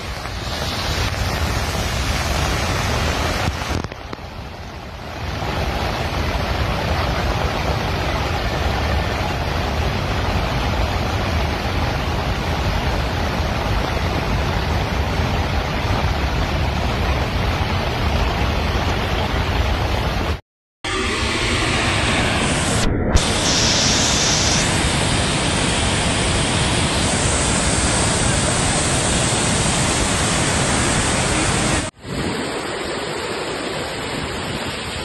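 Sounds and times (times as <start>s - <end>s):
heavy rain: 0.0s - 35.0s
muddy torrent rushing: 0.0s - 35.0s.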